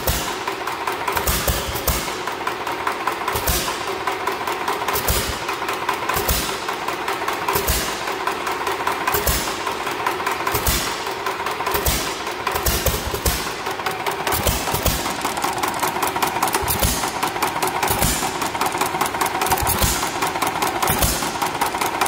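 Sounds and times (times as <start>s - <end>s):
mechanical clatter: 0.0s - 22.0s.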